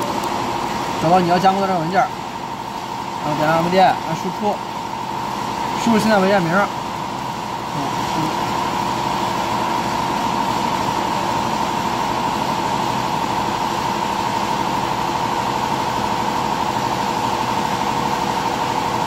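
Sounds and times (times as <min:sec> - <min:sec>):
lathe machine hum: 0:00.0 - 0:19.0.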